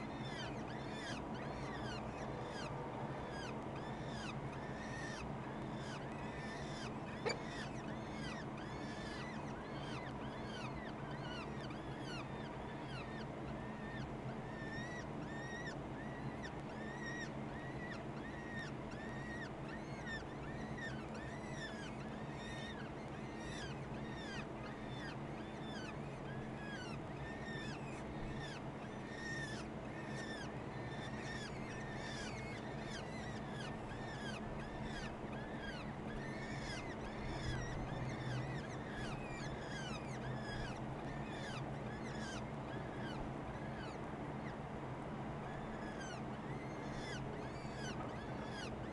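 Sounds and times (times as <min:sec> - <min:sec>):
falcon chicks cheeping: 0:00.0 - 0:44.6, 0:45.4 - 0:48.9
steady low hum: 0:00.0 - 0:48.9.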